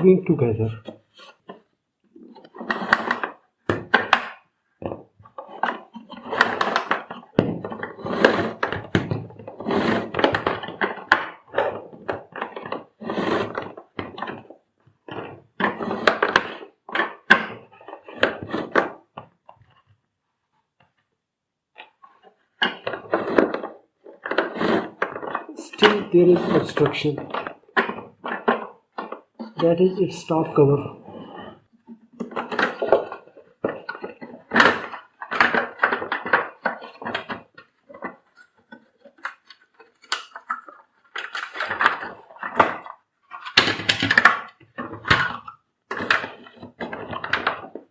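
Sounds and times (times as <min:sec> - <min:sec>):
plastic parts clicking and rubbing: 0:00.0 - 0:20.0, 0:21.7 - 0:47.9.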